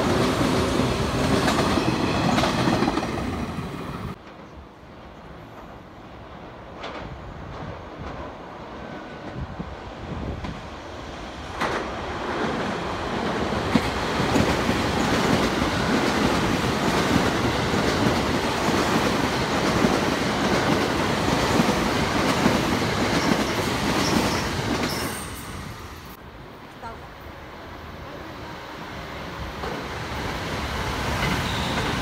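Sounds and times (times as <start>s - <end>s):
electric train running past: 0.0s - 32.0s.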